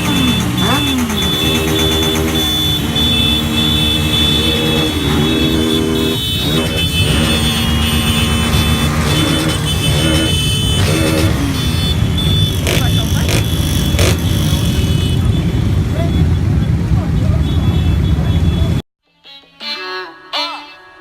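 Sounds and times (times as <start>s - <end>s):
continuous engine din: 0.0s - 18.8s
motorcycle engines revving: 0.0s - 18.8s.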